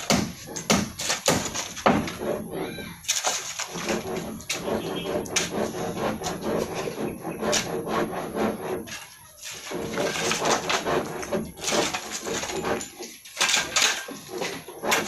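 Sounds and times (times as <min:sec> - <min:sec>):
hand tool scraping gritty surface: 0:00.0 - 0:15.0.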